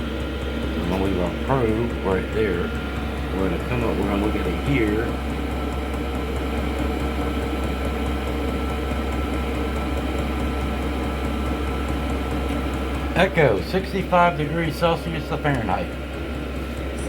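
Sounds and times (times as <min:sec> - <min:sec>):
air heater fan and burner hum: 0:00.0 - 0:17.0.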